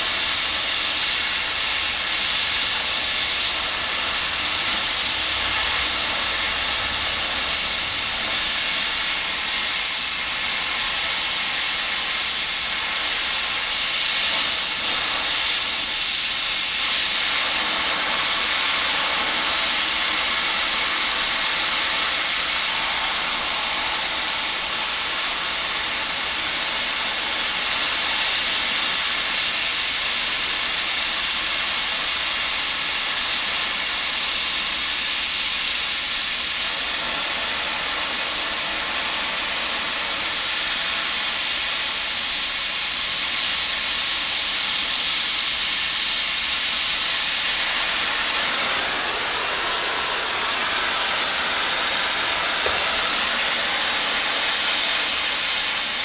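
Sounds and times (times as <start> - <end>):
welding arc hissing: 0.0 - 56.0.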